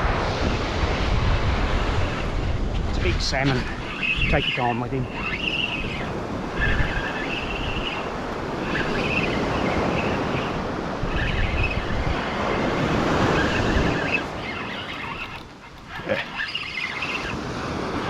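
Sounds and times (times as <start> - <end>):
surf breaking on beach: 0.0 - 18.0
wind buffeting microphone: 0.0 - 18.0.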